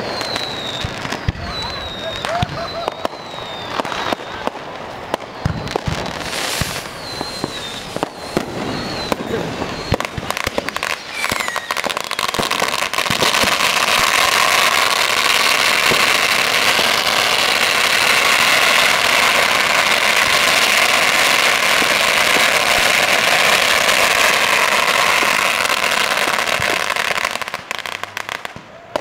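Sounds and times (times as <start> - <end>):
firework crackles: 0.0 - 29.0
firework fountain hissing: 0.0 - 29.0.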